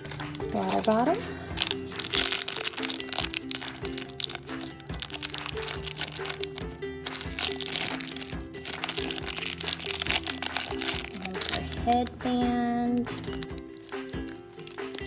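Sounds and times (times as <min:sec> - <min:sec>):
background music: 0:00.0 - 0:15.0
foil wrapper crinkling: 0:00.0 - 0:15.0.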